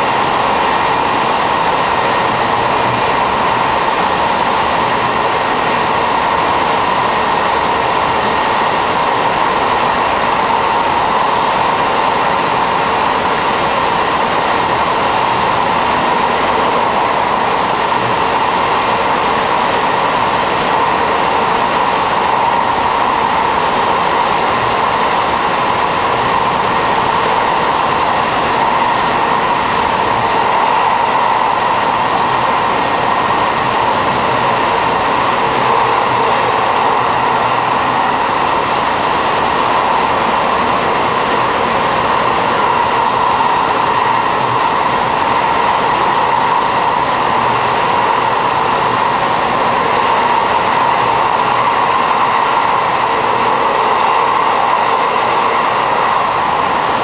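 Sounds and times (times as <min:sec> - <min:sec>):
railcar engine and wheels roar: 0:00.0 - 0:57.0.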